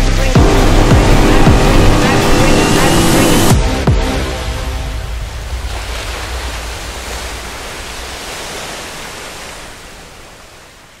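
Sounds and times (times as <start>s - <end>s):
hissing rush of noise: 0.0s - 10.4s.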